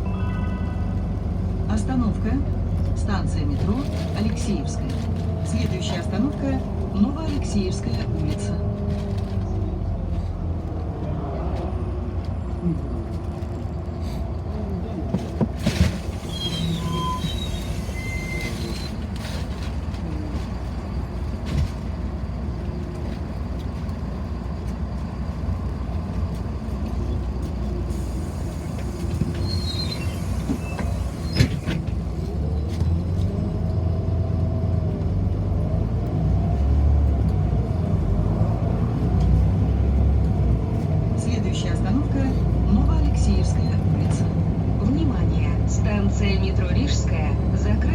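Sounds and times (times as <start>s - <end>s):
bus engine rumble: 0.0s - 47.9s.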